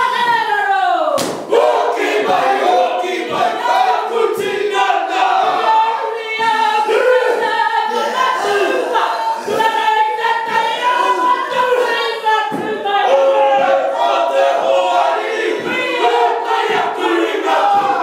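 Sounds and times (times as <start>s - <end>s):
group chanting in unison: 0.0s - 18.0s.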